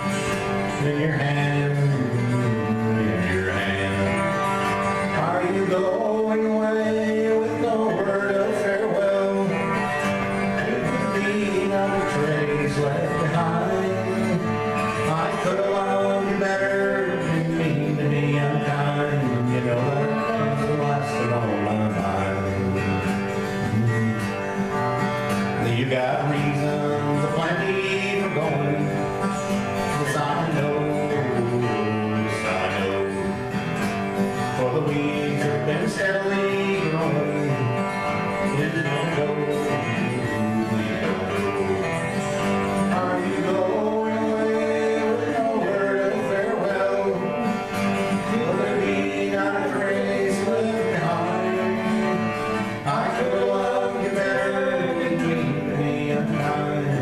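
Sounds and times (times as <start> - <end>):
acoustic guitars strummed and picked: 0.0 - 57.0
man singing: 0.0 - 57.0.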